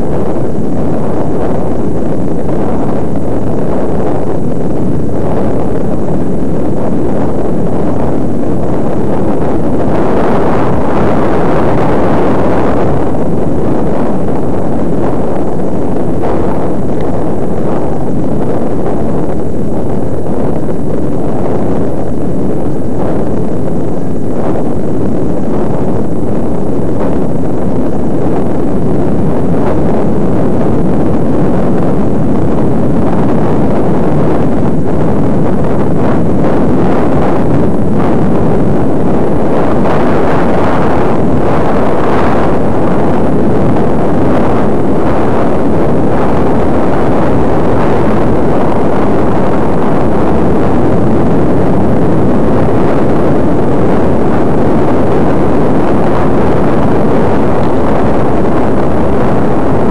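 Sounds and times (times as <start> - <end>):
wind and road noise rumble: 0.0 - 59.9.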